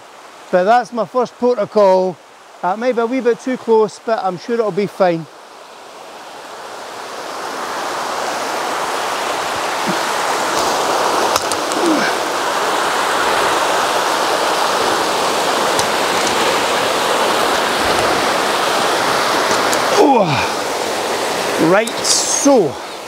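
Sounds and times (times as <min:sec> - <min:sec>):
water rushing over rock: 0:00.0 - 0:23.0.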